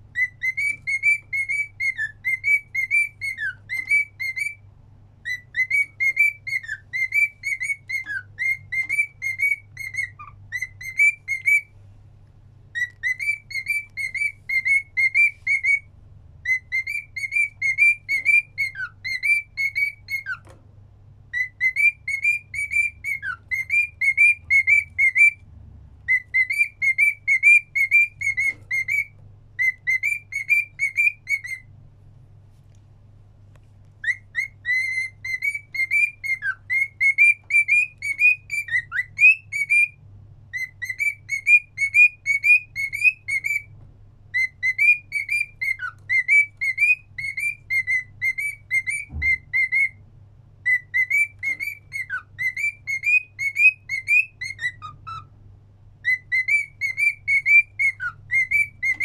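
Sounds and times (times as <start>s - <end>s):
cockatiel whistling a tune: 0.1s - 11.7s, 12.7s - 20.6s, 21.3s - 25.4s, 26.0s - 31.7s, 34.0s - 43.7s, 44.3s - 50.0s, 50.6s - 55.3s, 56.0s - 59.0s.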